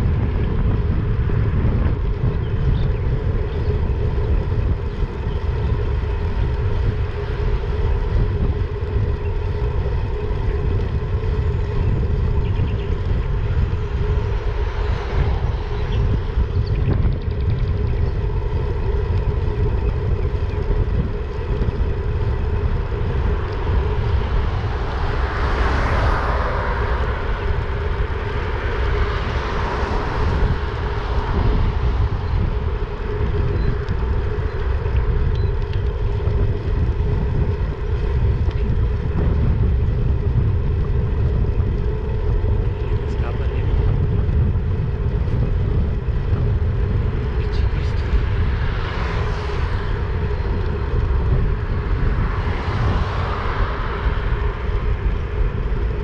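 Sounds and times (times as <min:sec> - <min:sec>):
car passing with tyre noise: 0:00.0 - 0:56.0
wind buffeting microphone: 0:00.0 - 0:56.0.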